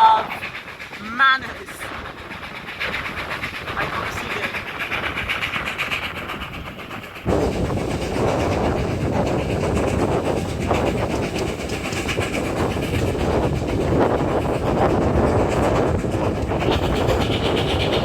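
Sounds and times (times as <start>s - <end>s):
steam train running at speed: 0.0s - 18.0s.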